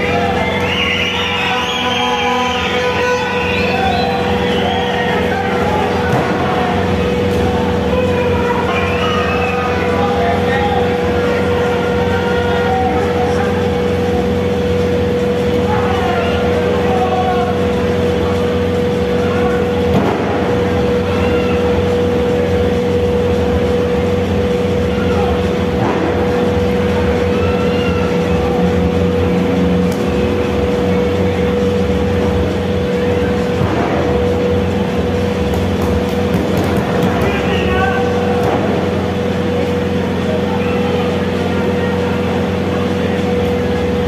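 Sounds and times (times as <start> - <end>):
faint crowd shouts: 0.0 - 31.8, 36.2 - 44.0
low drone with hum: 0.0 - 44.0.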